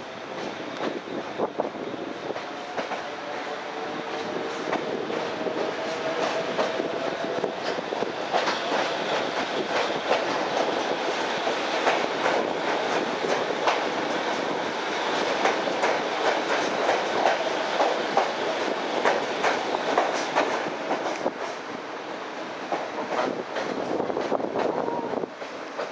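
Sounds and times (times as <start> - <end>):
train rushing noise: 0.0 - 25.9.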